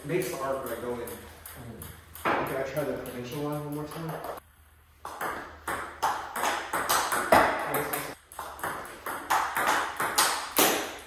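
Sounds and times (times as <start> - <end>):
ping-pong ball knocking: 0.6 - 4.4, 5.0 - 11.0.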